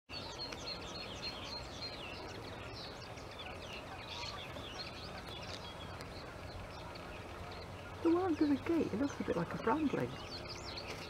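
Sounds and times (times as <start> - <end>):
finches twittering and chirping: 0.1 - 11.0.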